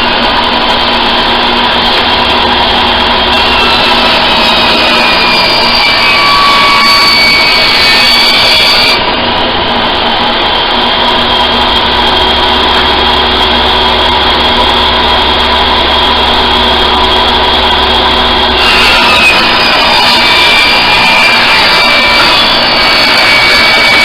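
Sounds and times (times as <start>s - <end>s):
table saw motor whine: 0.0s - 24.0s.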